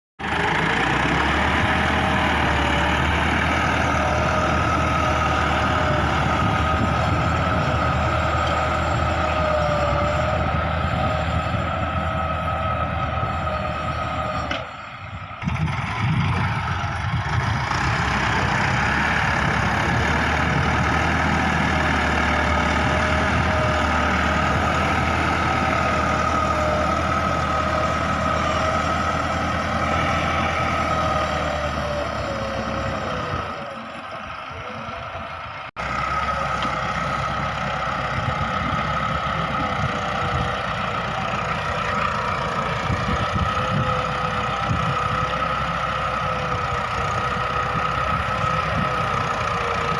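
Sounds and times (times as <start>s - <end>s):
tractor diesel engine running: 0.2s - 49.9s.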